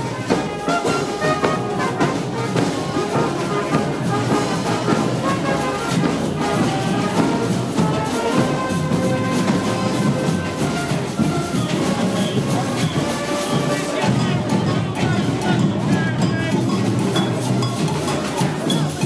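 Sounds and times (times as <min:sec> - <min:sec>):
brass music: 0:00.0 - 0:16.2.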